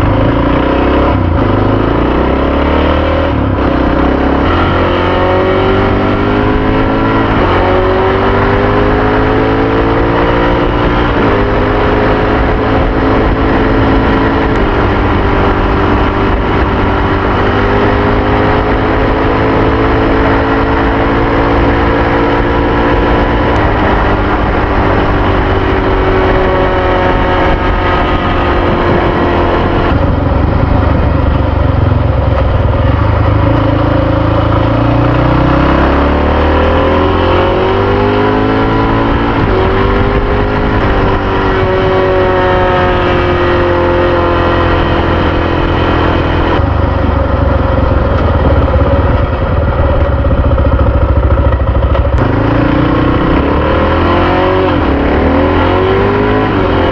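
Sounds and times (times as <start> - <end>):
motorcycle engine accelerating: 0.0 - 56.9
wind rushing over microphone: 0.0 - 56.9.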